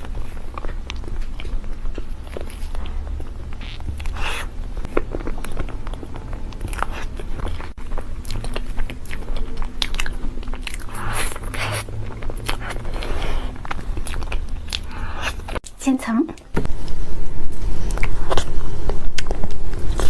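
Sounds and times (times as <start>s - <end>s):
biting and chewing: 0.0s - 15.8s, 16.4s - 20.0s
steady low hum: 0.0s - 20.0s.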